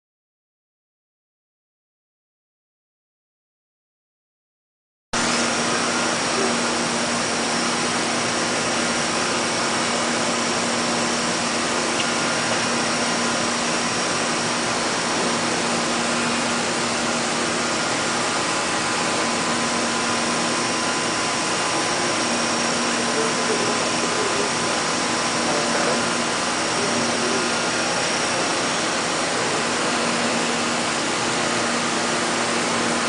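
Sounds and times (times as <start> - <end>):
milling machine whirring: 5.2 - 33.0.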